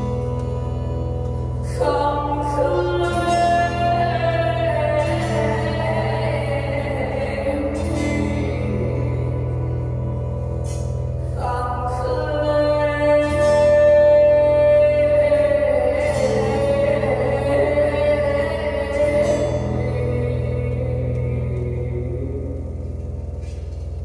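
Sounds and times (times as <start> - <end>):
woman singing: 0.0 - 23.0
steady low drone: 0.0 - 24.0.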